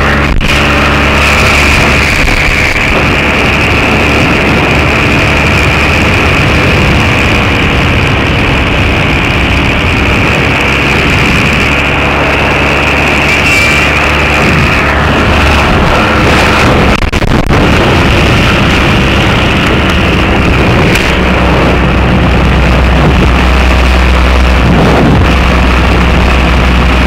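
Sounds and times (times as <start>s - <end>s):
ultralight engine and propeller drone: 0.0s - 27.0s.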